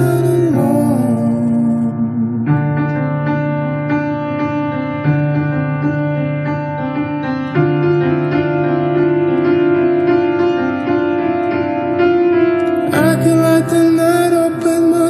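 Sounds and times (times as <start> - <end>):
sustained piano chords: 0.0 - 15.0.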